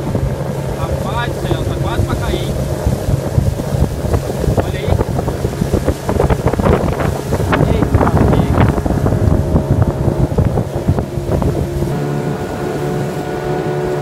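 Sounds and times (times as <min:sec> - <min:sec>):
outboard motor running: 0:00.0 - 0:14.0
wind buffeting microphone: 0:00.0 - 0:14.0.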